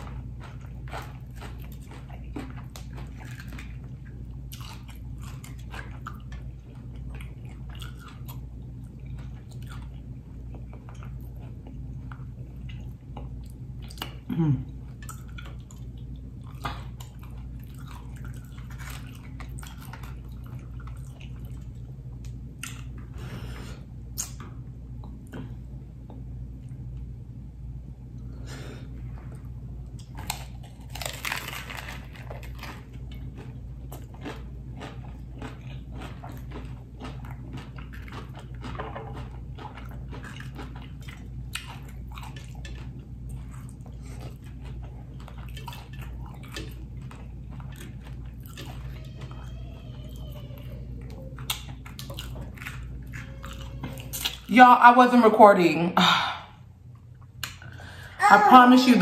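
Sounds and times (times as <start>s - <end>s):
crunching and chewing taco: 0.0s - 27.1s, 28.1s - 54.5s
steady low hum: 0.0s - 59.0s.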